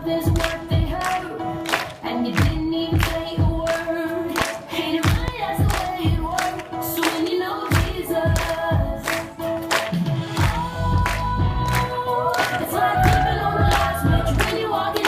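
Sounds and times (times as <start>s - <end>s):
group singing over music: 0.0s - 15.0s.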